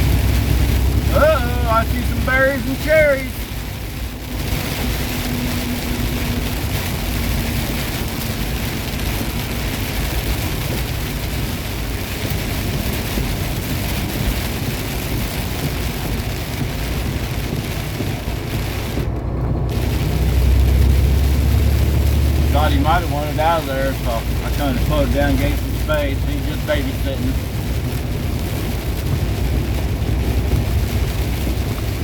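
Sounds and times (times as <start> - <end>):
rain and tyre spray hiss: 0.0 - 32.0
truck engine and road noise: 0.0 - 32.0.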